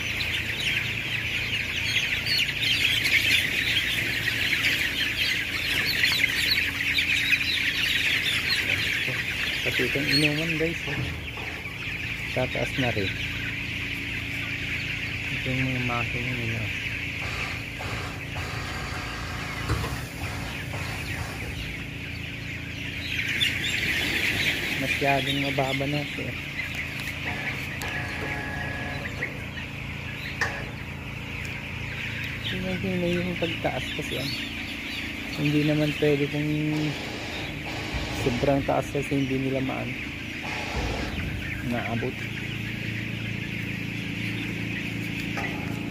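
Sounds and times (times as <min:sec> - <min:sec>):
chicks peeping: 0:00.0 - 0:45.9
steady low hum: 0:00.0 - 0:45.9.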